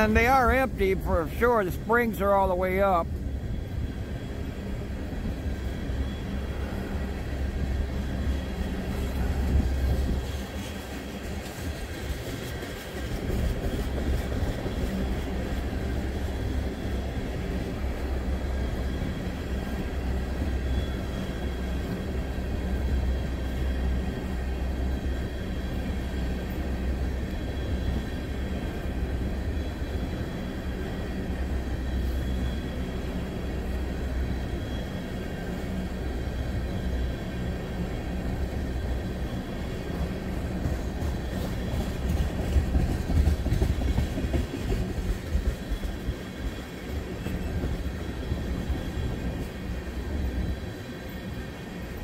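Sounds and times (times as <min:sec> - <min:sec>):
freight train wheels rumbling on rails: 0:00.0 - 0:52.0.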